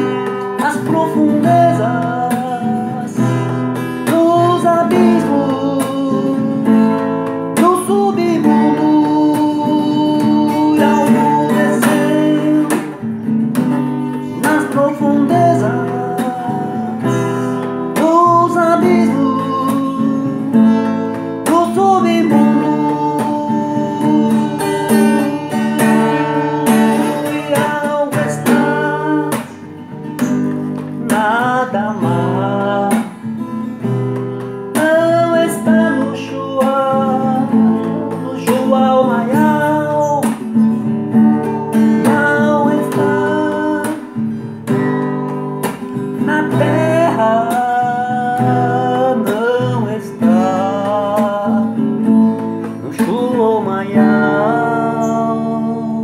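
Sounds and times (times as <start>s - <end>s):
acoustic guitar accompaniment: 0.0s - 56.0s
person singing: 0.0s - 56.0s.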